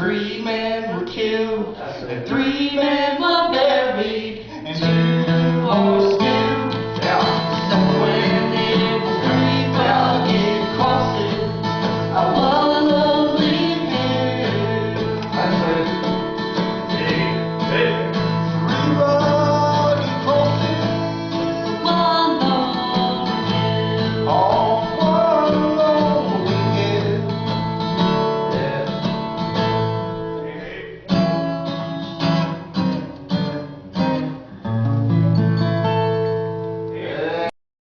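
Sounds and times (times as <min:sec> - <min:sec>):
acoustic guitar country music: 0:00.0 - 0:37.5.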